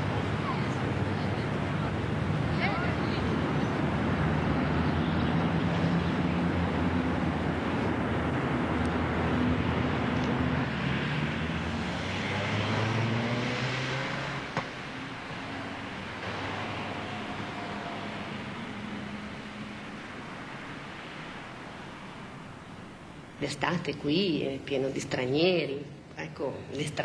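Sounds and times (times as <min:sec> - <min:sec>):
vehicle engine hum: 0:00.0 - 0:25.4
traffic noise: 0:00.0 - 0:27.0.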